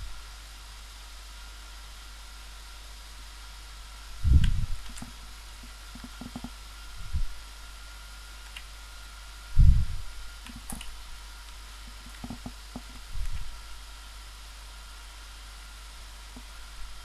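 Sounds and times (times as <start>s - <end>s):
electrical hum and whine: 0.0s - 17.0s.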